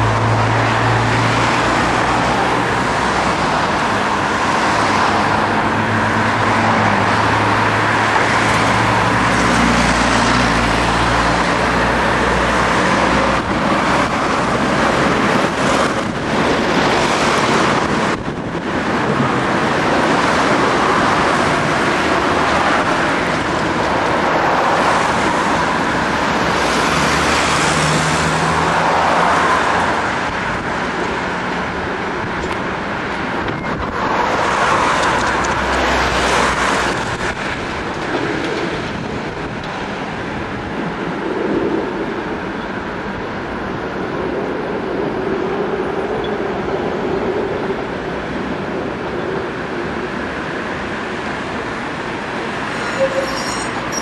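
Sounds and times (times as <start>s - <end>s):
cars and trams passing: 0.0s - 54.0s.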